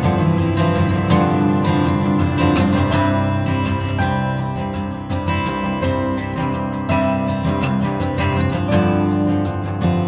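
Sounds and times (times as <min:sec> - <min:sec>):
strummed acoustic guitar music: 0:00.0 - 0:10.0.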